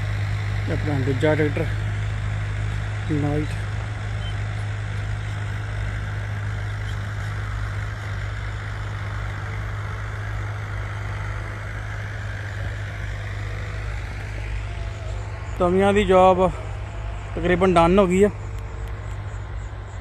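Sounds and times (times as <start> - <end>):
diesel tractor engine droning: 0.0 - 20.0.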